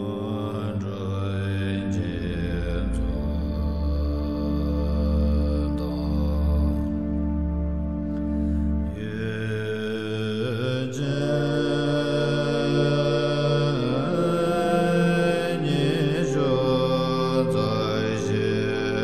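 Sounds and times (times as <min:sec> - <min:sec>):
low musical accompaniment: 0:00.0 - 0:19.0
person chanting long notes: 0:00.0 - 0:19.0.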